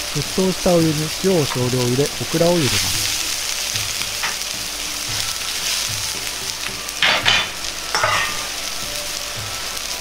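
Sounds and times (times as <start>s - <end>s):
water boiling in a wok: 0.0s - 10.0s.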